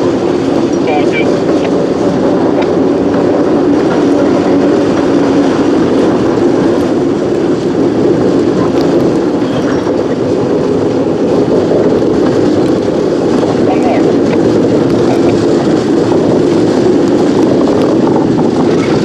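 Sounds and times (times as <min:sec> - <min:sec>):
locomotive diesel engine running: 0:00.0 - 0:19.0
rail cars rolling on rails: 0:00.0 - 0:19.0.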